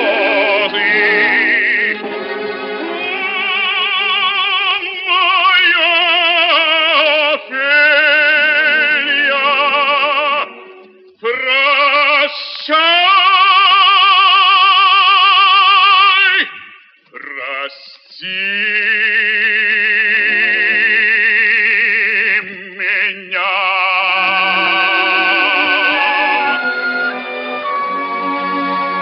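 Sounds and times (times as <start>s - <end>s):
operatic baritone singing: 0.0s - 29.0s.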